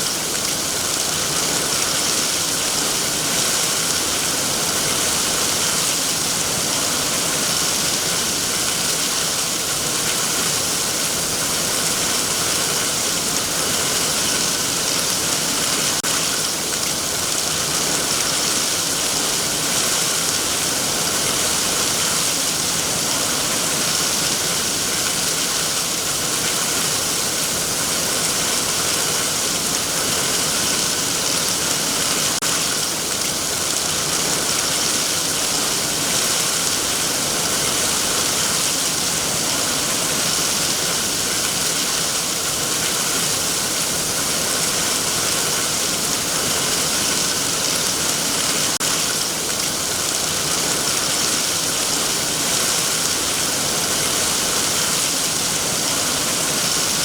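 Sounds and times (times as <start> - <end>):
heavy rain on trees: 0.0 - 57.0.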